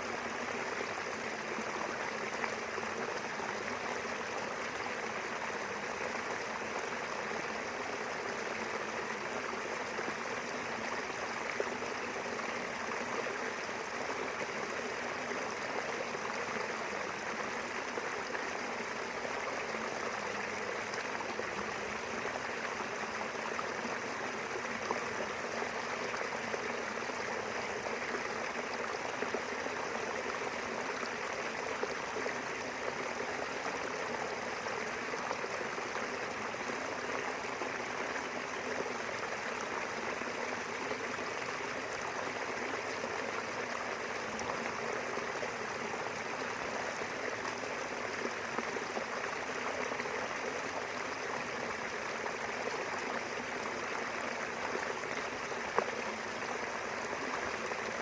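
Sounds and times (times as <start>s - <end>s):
river water rushing and babbling: 0.0s - 58.0s.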